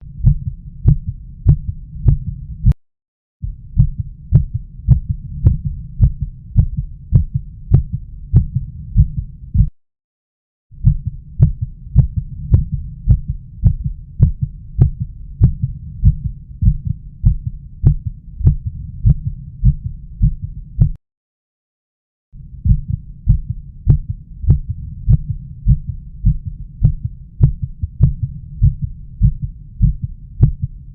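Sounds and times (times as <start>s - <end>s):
heartbeat through stethoscope: 0.0s - 2.8s, 3.4s - 9.7s, 10.8s - 21.0s, 22.6s - 30.9s.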